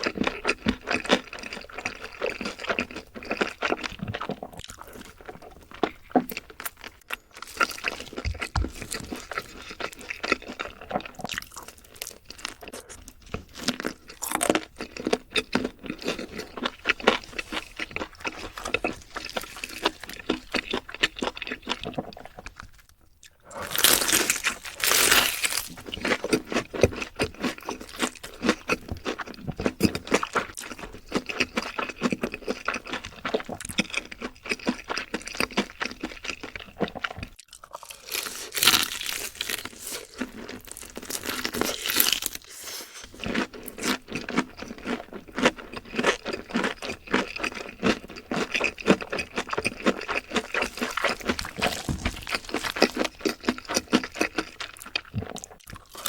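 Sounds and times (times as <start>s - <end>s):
crunchy chewing of fried chicken: 0.0s - 56.0s.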